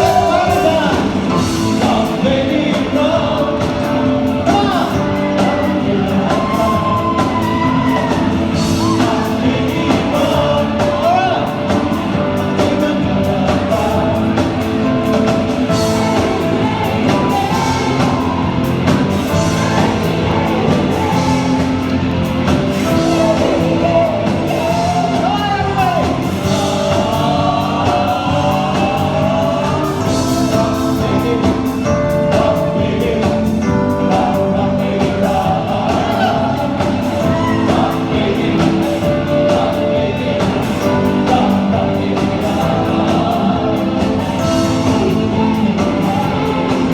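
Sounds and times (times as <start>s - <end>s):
live band playing disco-rock: 0.0s - 46.9s
person singing: 0.0s - 46.9s.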